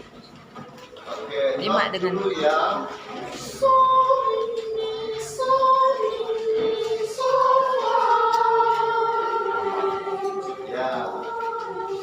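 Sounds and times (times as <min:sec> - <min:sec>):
children's choir singing: 0:01.0 - 0:12.0.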